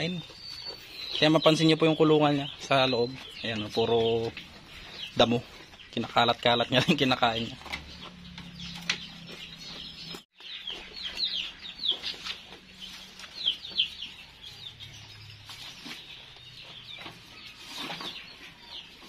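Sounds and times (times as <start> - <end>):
chickens clucking: 0.0 - 19.0
goats chewing vines: 0.0 - 19.0.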